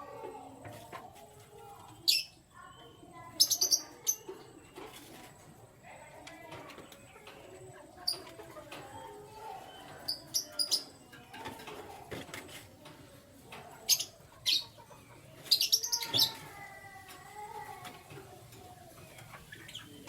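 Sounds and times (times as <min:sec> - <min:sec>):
canaries chirping: 0:01.3 - 0:20.0.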